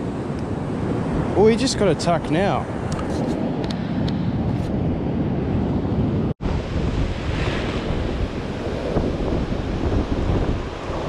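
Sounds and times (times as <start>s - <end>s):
surf washing up beach: 0.0s - 11.0s
wind buffeting microphone: 0.0s - 11.0s.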